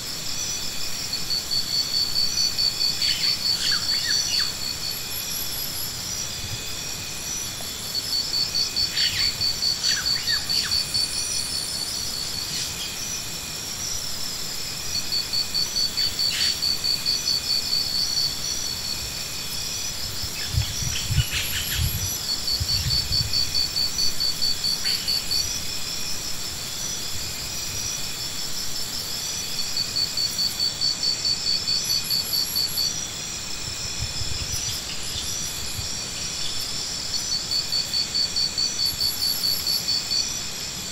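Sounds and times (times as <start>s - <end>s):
high-pitched insect drone: 0.0s - 40.9s
insect trills: 0.0s - 40.9s.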